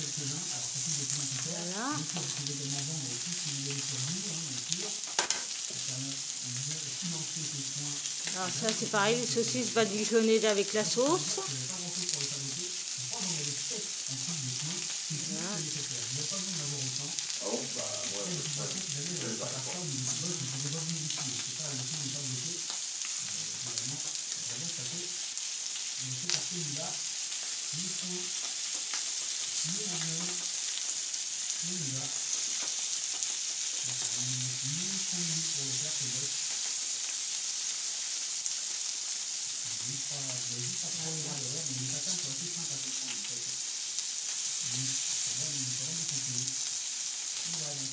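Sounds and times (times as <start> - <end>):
food sizzling on a griddle: 0.0 - 47.9.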